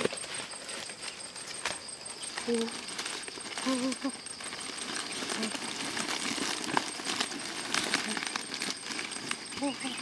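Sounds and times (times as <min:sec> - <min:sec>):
leaves rustling and crinkling: 0:00.0 - 0:10.0.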